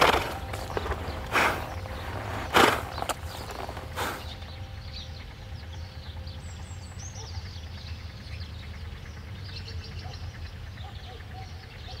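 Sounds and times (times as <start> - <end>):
low steady rumble: 0.0 - 12.0
small birds chirping and twittering: 0.0 - 12.0.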